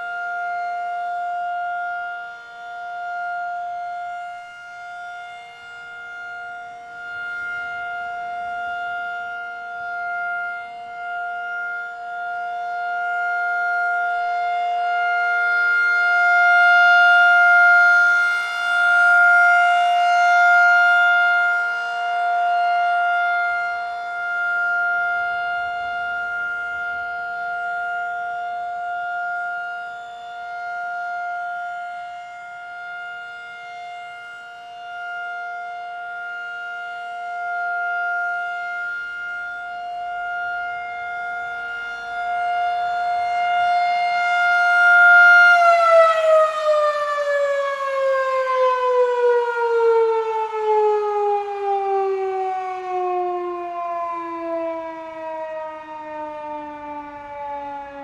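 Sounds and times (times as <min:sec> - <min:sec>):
siren winding down: 0:00.0 - 0:58.0
warning siren steady tone: 0:00.0 - 0:58.0.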